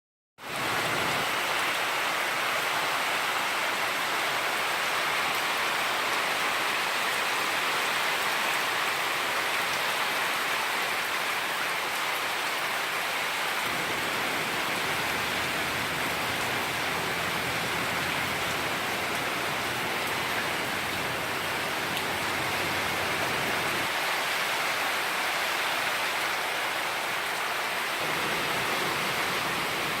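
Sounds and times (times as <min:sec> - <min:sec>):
rushing floodwater and rain: 0:00.4 - 0:30.0.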